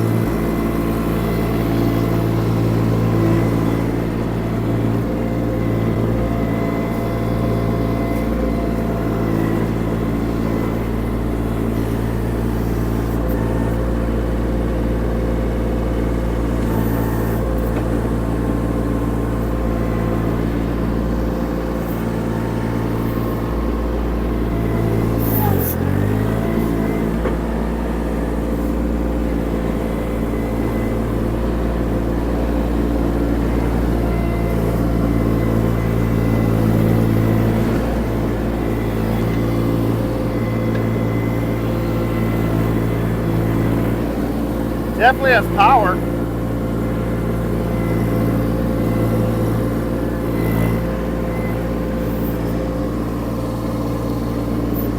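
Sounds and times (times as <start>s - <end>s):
skid steer diesel engine running: 0.0s - 54.9s.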